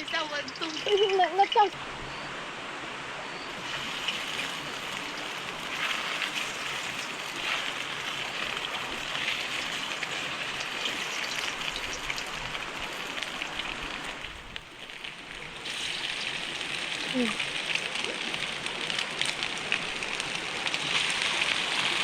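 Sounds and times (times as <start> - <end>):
meat deep-frying in oil: 3.5 - 22.0.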